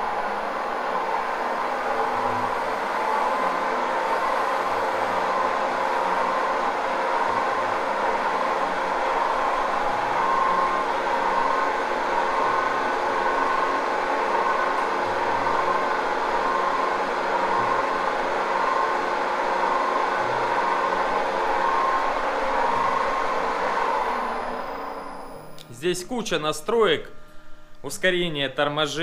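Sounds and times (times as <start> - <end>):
metal lathe whirring: 0.0 - 25.6.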